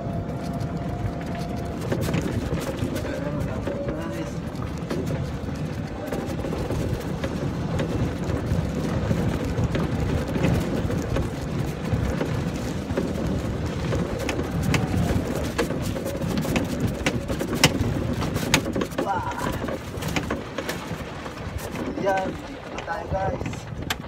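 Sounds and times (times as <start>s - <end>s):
rattles and clicks from bumps: 0.0s - 24.0s
wheels rumbling on rough track: 0.0s - 24.0s
wind: 0.0s - 24.0s.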